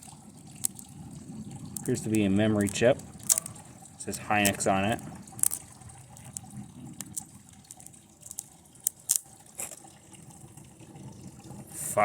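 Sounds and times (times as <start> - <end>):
electrical arcing crackles and snaps: 0.0 - 9.8.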